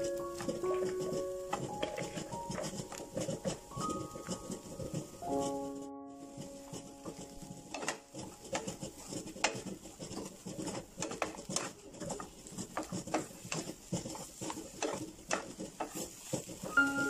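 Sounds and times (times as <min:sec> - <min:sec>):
wooden spatula scraping frying pan: 0:00.0 - 0:17.0.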